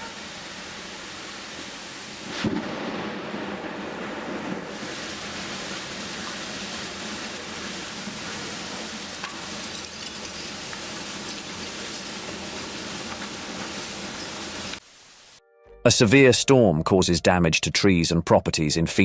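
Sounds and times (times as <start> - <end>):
heavy rain pouring: 0.0 - 15.4.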